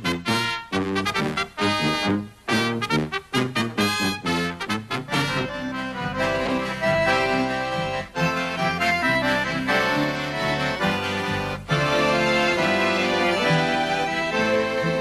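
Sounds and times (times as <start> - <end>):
accordion music: 0.0 - 15.0
brass band short notes: 0.0 - 15.0
upright bass: 0.0 - 15.0.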